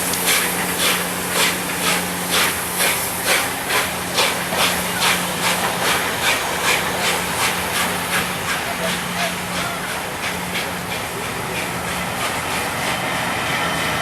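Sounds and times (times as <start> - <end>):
steam hissing: 0.0 - 14.0
steam locomotive exhaust chuffs: 0.0 - 14.0.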